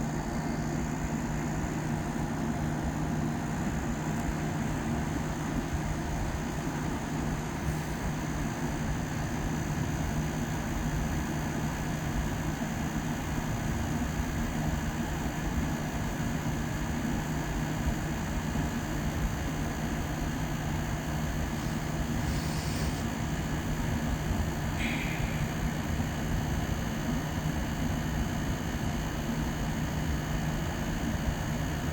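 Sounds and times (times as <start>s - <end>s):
air conditioner running: 0.0s - 31.9s.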